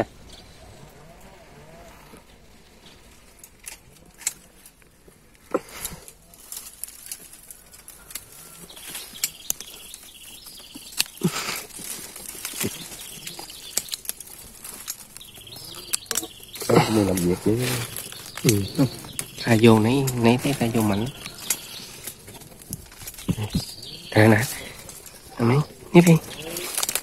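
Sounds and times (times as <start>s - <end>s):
bamboo and brush rustling: 0.0s - 27.0s
twigs snapping: 2.8s - 27.0s.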